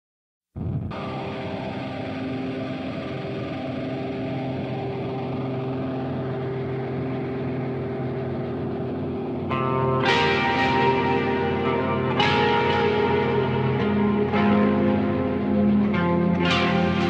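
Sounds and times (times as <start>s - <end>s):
droning synthesizer chord: 0.9s - 17.0s.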